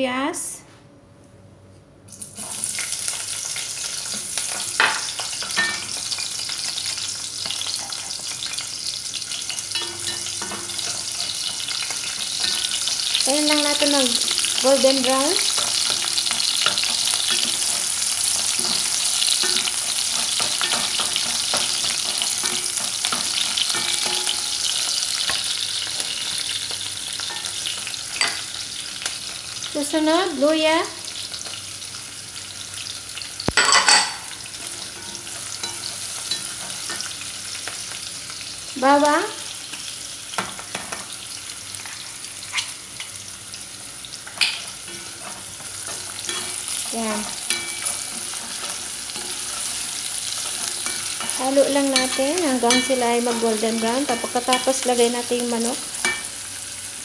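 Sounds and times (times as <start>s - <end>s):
onion sizzling in hot oil: 2.1s - 57.0s.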